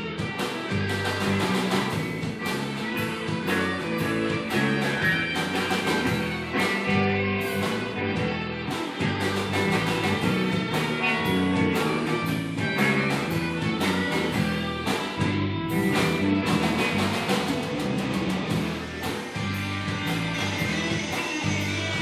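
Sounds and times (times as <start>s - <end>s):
bass guitar: 0.0s - 22.0s
drum hits: 0.0s - 22.0s
electric guitars: 0.0s - 22.0s.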